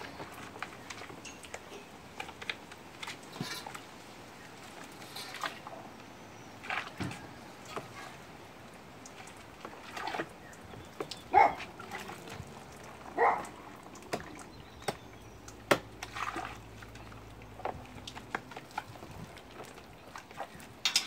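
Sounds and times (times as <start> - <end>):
water splashing in plastic tub: 0.0 - 21.0.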